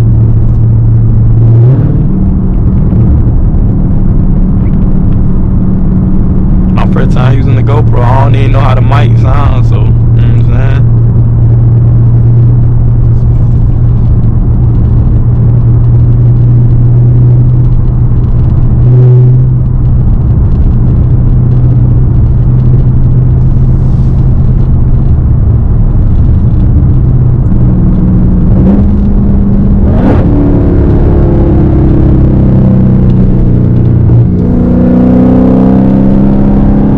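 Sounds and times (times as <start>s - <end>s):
car exhaust droning: 0.0s - 36.9s.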